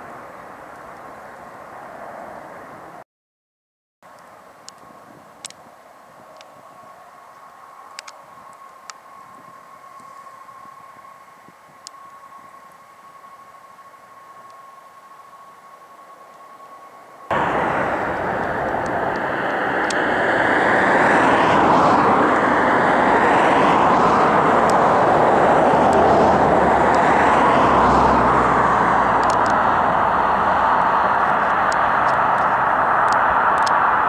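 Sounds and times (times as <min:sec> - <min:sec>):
jet engines rushing: 0:06.3 - 0:34.0.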